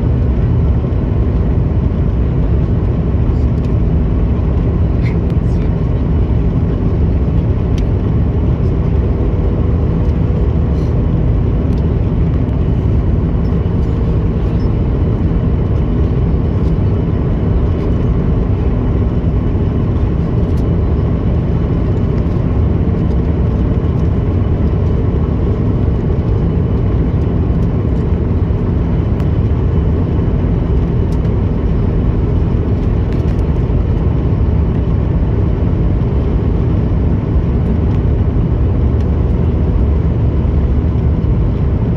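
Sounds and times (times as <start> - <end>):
jet engine and airflow noise: 0.0 - 41.9.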